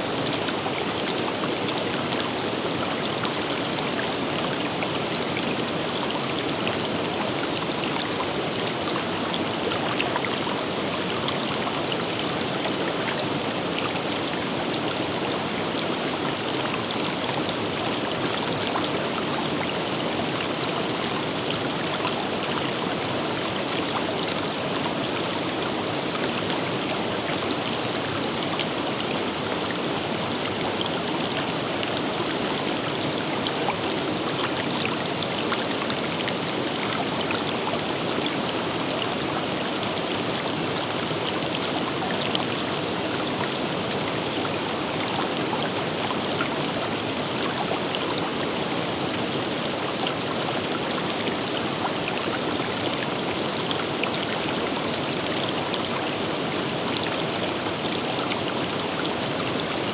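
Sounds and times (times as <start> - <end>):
river water rushing and babbling: 0.0 - 59.9.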